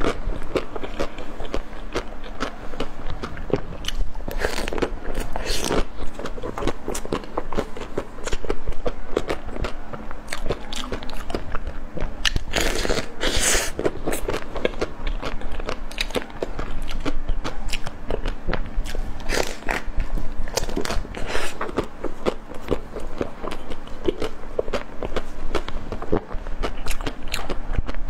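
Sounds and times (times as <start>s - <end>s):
mango being bitten and chewed: 0.0s - 28.0s.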